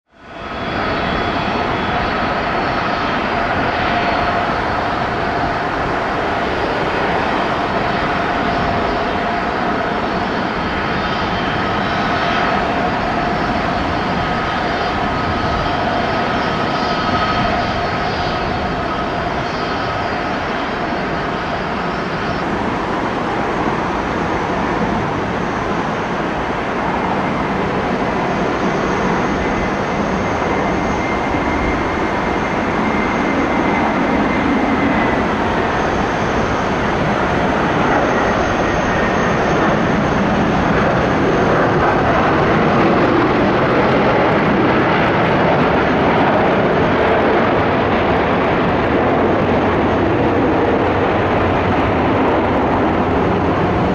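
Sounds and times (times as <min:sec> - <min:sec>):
jet engine rush: 0:00.2 - 0:53.9.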